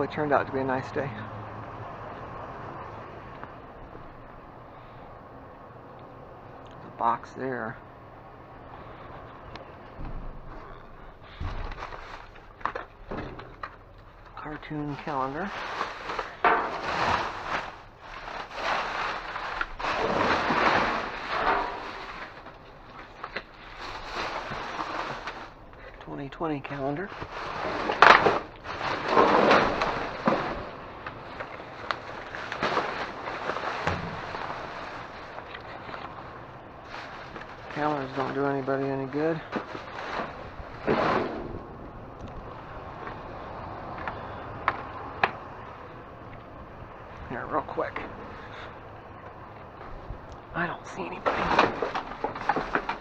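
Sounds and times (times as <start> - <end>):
steady background noise: 0.0 - 53.0
cardboard and paper rustling: 8.8 - 26.0, 26.6 - 53.0.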